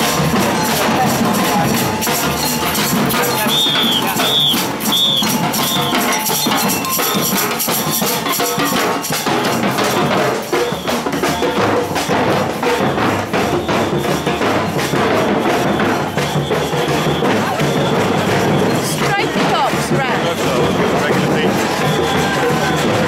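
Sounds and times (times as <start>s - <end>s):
clacking percussion: 0.0s - 23.0s
marching drum band: 0.0s - 23.0s.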